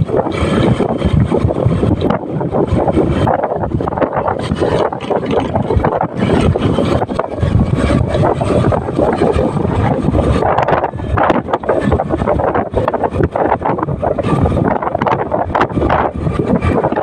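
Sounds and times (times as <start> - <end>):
motorcycle engine: 0.0 - 17.0
road noise: 0.0 - 17.0
wind buffeting microphone: 0.0 - 17.0.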